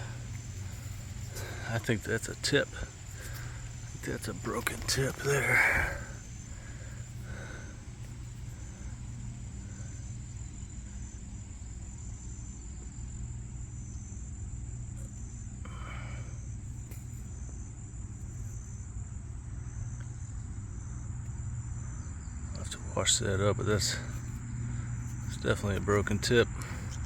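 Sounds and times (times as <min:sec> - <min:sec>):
insects trilling: 0:00.0 - 0:27.0
low steady rumble: 0:00.0 - 0:27.0
pulsing insect chirp: 0:00.0 - 0:27.0.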